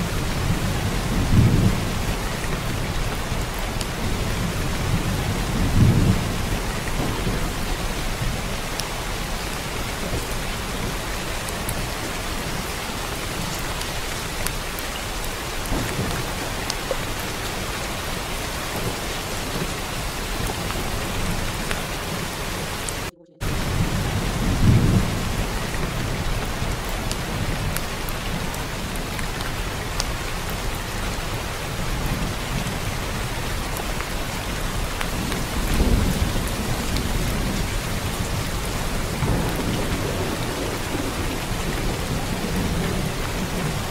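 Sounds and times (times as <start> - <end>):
thunder rolling: 0.0 - 30.2, 31.3 - 43.9
heavy rain: 0.0 - 43.9.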